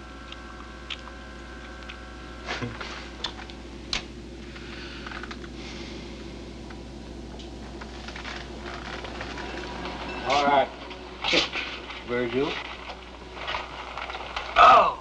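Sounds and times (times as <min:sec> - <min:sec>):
air conditioner humming and whining: 0:00.0 - 0:15.0.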